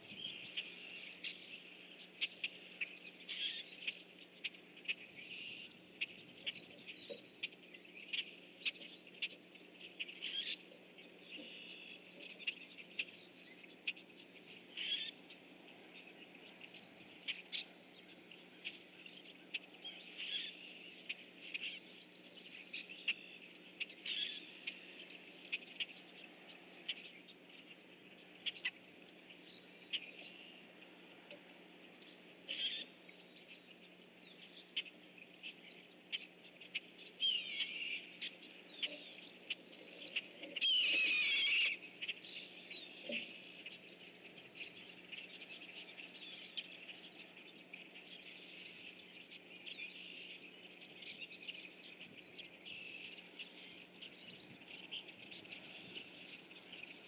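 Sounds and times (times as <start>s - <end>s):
blackbirds calling: 0.0s - 57.0s.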